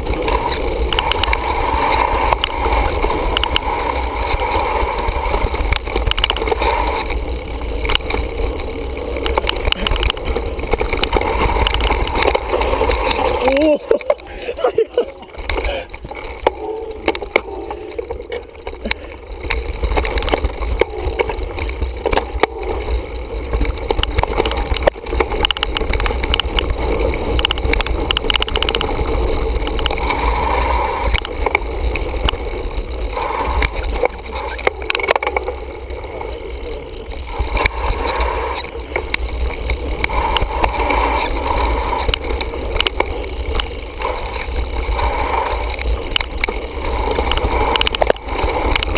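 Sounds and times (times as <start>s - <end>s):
bike tyres rumbling on dirt: 0.0s - 48.9s.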